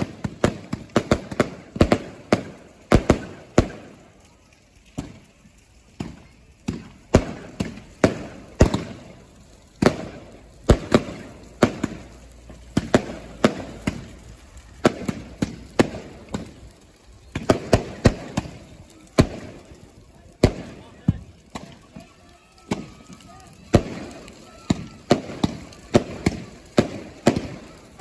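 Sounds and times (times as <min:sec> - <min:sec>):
fireworks banging: 0:00.0 - 0:28.0.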